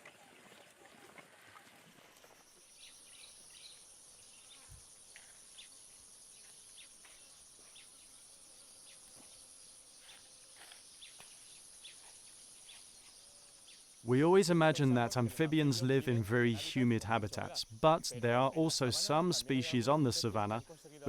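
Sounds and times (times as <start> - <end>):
insect chirps: 0.2 - 21.0
high-pitched insect trill: 2.2 - 21.0.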